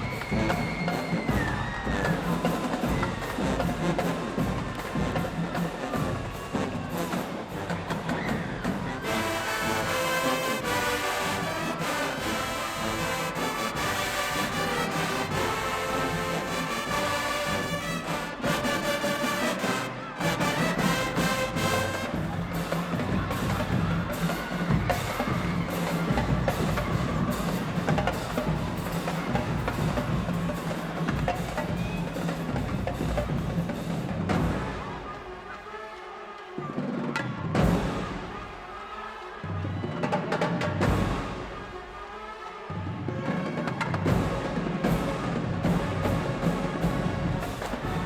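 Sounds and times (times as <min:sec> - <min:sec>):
drumline percussion: 0:00.0 - 0:48.0
marching band playing: 0:00.0 - 0:48.0.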